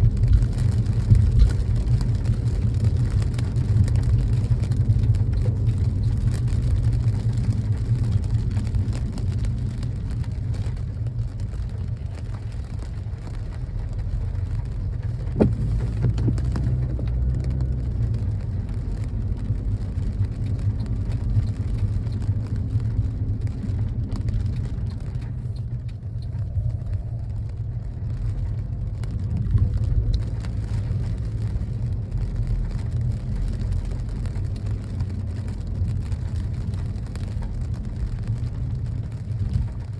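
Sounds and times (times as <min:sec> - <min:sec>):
rain hitting car: 0:00.0 - 0:39.9
road and wind noise in car: 0:00.0 - 0:39.9.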